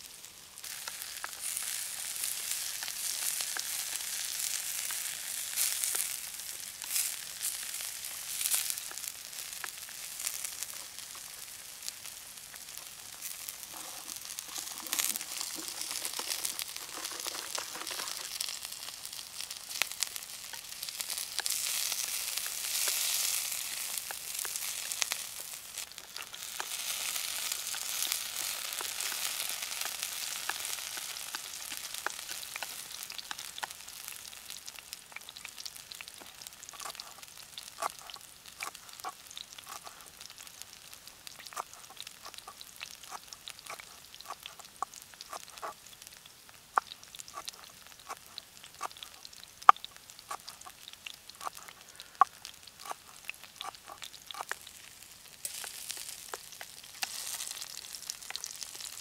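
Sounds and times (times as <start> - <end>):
campfire crackles: 0.0 - 59.0
noodles sizzling in a pan: 0.0 - 59.0.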